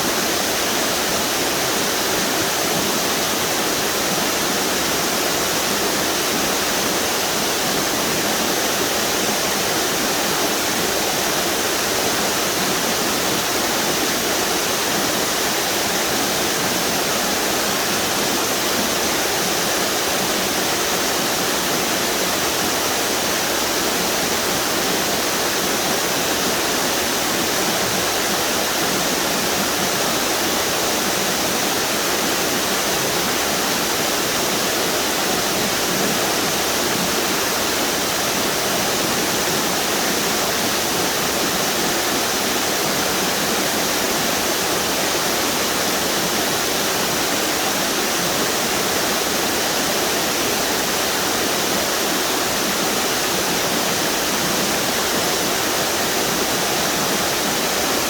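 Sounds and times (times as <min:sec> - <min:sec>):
waterfalls roaring: 0:00.0 - 0:58.0.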